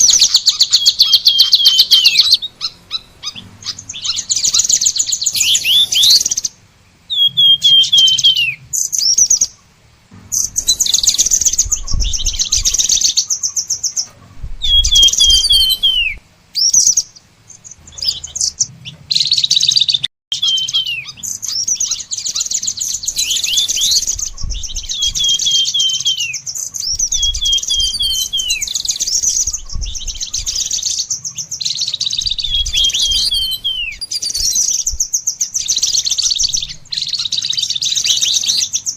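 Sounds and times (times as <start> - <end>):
songbird trilling: 0.0 - 38.9.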